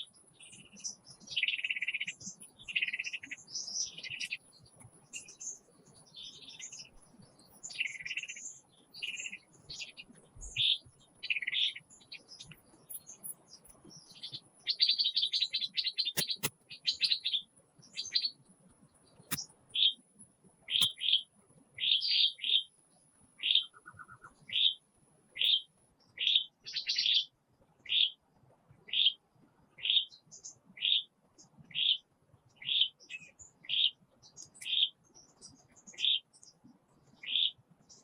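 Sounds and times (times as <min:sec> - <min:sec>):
bird chirping: 0:00.0 - 0:20.0, 0:20.6 - 0:22.8, 0:23.4 - 0:28.2, 0:28.9 - 0:29.2, 0:29.8 - 0:38.0.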